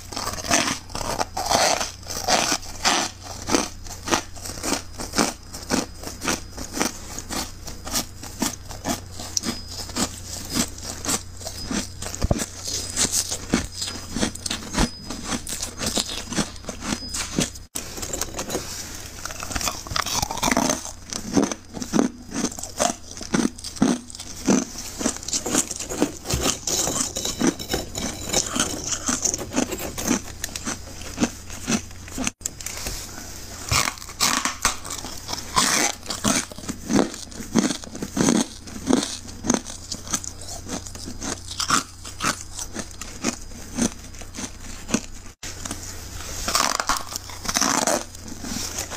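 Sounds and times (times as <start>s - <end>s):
freezer frost crunching: 0.0s - 48.9s.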